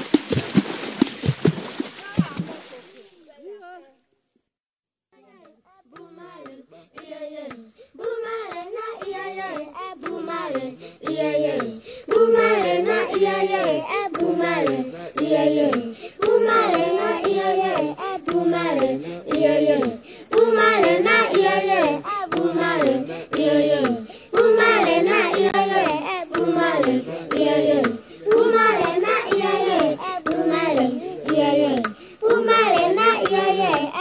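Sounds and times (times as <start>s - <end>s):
hand claps: 5.4s - 34.0s
group singing: 5.9s - 34.0s.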